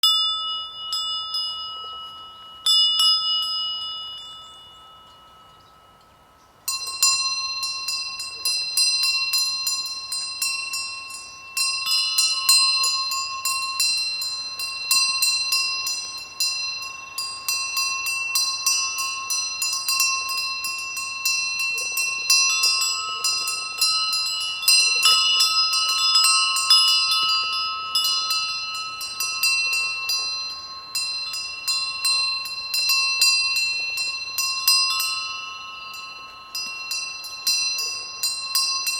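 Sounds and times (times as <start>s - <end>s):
sheep bells clanking: 0.0s - 38.9s.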